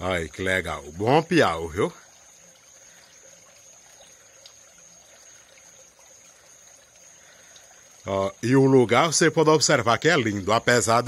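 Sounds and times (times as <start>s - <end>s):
creek water trickling: 0.0s - 11.0s.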